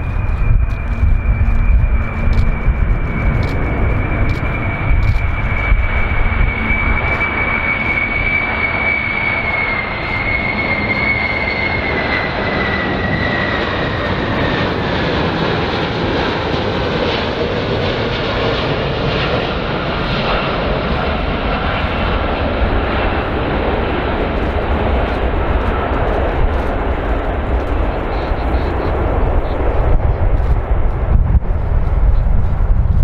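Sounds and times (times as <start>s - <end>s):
jet aircraft rumble and whine: 0.0s - 33.0s.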